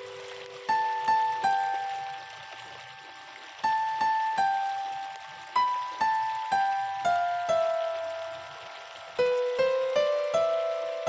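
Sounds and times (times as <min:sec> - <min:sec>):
plucked notes ringing: 0:00.0 - 0:11.0.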